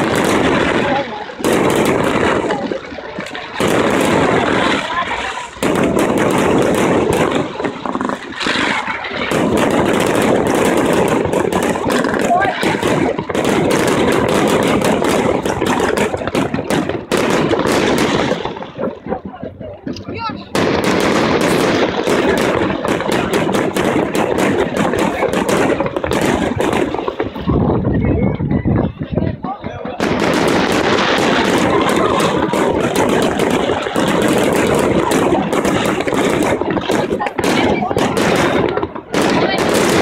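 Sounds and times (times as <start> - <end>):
fireworks crackling and popping: 0.0 - 40.0.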